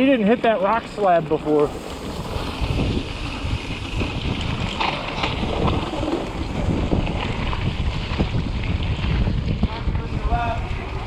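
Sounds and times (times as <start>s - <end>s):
bike knocks and rattles: 0.0s - 11.0s
bike tyre noise: 0.0s - 11.0s
wind rumbling on microphone: 0.0s - 11.0s.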